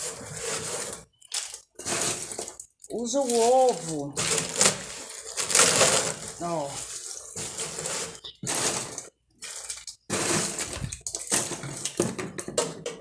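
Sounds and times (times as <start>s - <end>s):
dry eggshells crackling and rattling: 0.0s - 13.0s.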